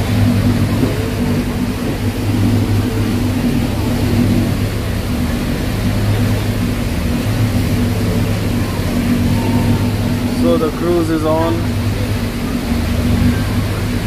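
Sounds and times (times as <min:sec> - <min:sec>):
boat engine droning: 0:00.0 - 0:14.0
water rushing: 0:00.0 - 0:14.0.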